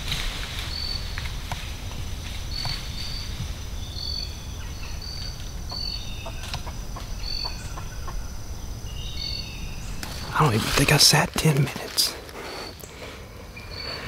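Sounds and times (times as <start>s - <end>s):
low rumble of wind: 0.0s - 14.0s.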